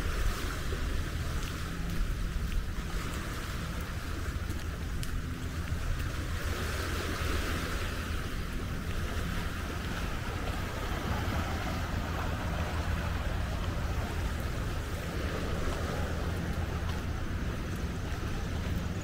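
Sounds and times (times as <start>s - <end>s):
sea waves: 0.0s - 19.0s
wind rumbling on microphone: 0.0s - 19.0s.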